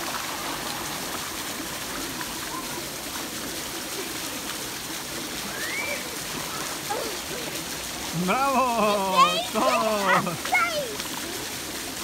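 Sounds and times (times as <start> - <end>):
rushing pool water: 0.0 - 12.0
faint voices: 0.8 - 11.9.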